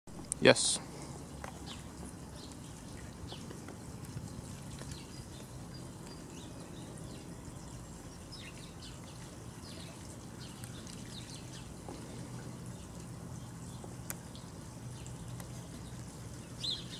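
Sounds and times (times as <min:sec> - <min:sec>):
steady low hum: 0:00.1 - 0:16.9.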